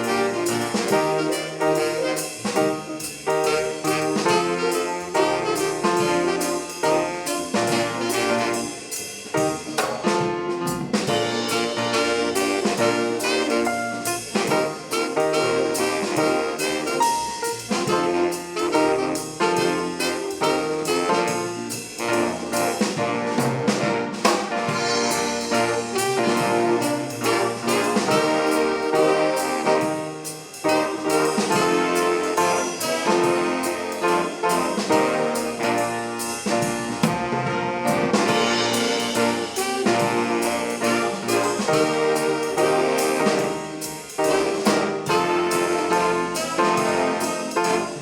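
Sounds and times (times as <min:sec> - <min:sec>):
drum kit steady beat: 0:00.0 - 0:48.0
swing band playing jazz: 0:00.0 - 0:48.0.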